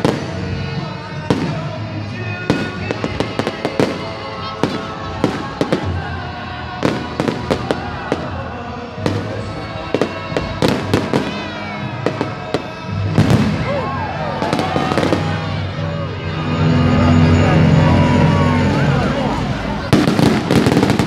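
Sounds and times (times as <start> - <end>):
fireworks bangs and crackles: 0.0 - 16.2, 18.6 - 21.0.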